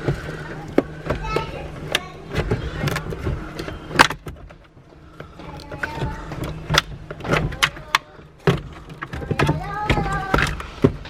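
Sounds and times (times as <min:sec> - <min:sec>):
clicks and knocks of trim parts: 0:00.0 - 0:11.0.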